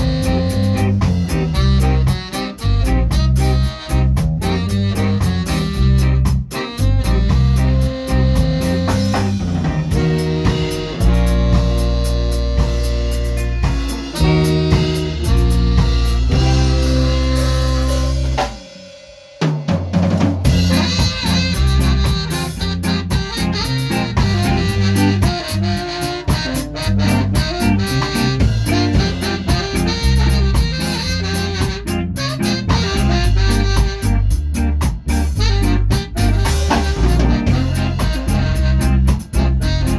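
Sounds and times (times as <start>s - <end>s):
drum kit: 0.0s - 39.9s
ska band playing: 0.0s - 39.9s.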